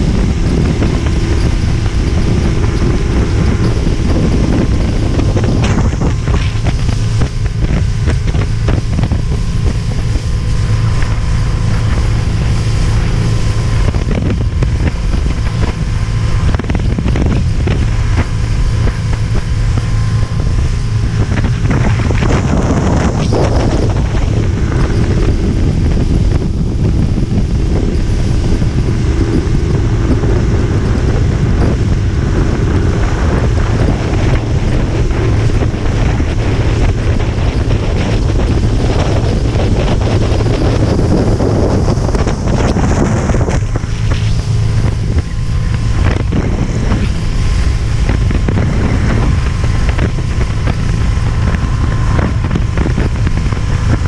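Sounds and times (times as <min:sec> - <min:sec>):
motorboat engine drone: 0:00.0 - 0:54.0
water rushing: 0:00.0 - 0:54.0
wind buffeting microphone: 0:00.0 - 0:54.0.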